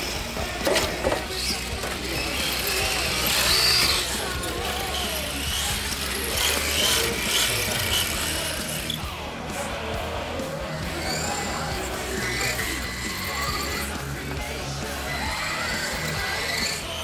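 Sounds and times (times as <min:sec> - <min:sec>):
rc car motors whining: 0:00.0 - 0:17.0.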